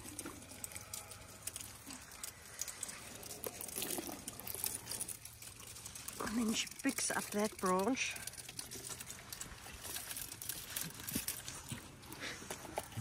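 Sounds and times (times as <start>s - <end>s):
elephant chewing crunching twigs: 0.0s - 13.0s.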